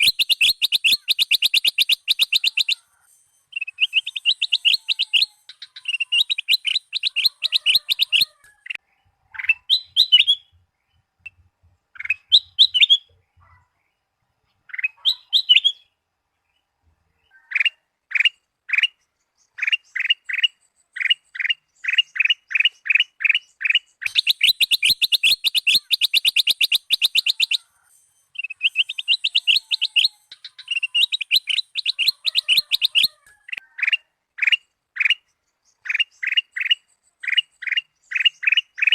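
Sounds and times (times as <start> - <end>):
bulbul singing trills: 0.0 - 11.4, 12.0 - 38.9.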